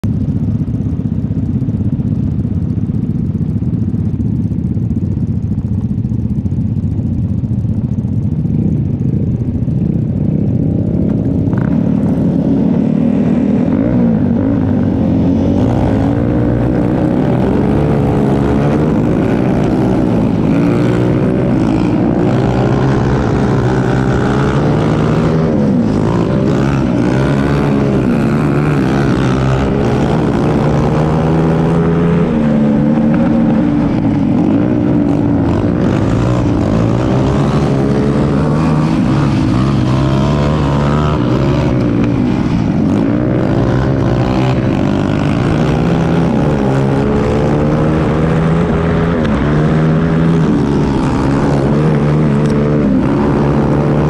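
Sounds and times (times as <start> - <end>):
kart engines revving: 7.4 - 54.0.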